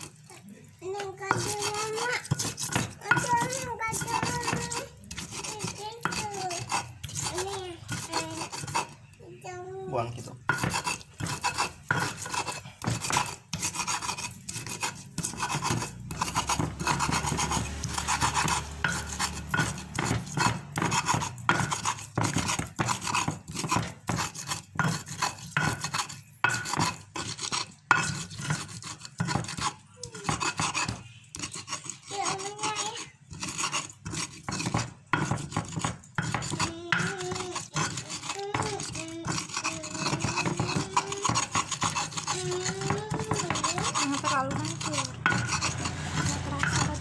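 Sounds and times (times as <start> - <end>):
pestle grinding paste in stone mortar: 0.0 - 9.2, 9.9 - 47.0.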